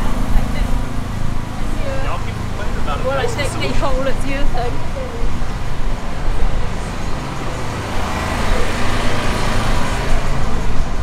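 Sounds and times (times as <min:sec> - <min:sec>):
truck engine hum: 0:00.0 - 0:11.0
vehicle passing by: 0:00.0 - 0:11.0.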